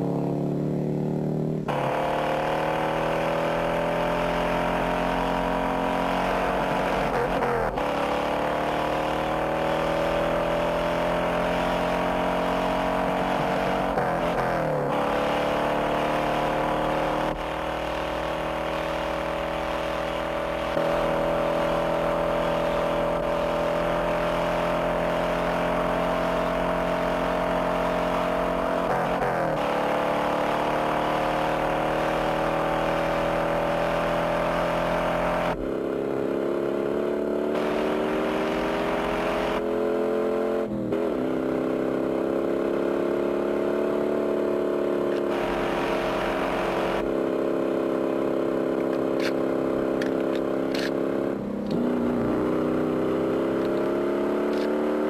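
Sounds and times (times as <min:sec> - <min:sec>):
engines revving high: 0:00.0 - 0:55.0.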